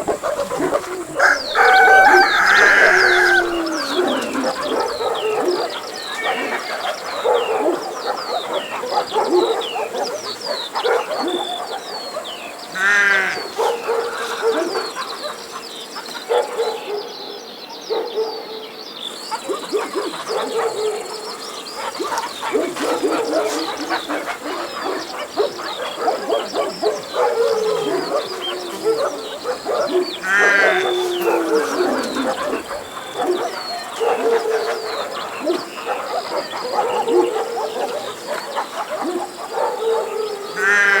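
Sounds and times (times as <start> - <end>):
farmyard animal calls: 0.0 - 16.8, 19.1 - 41.0.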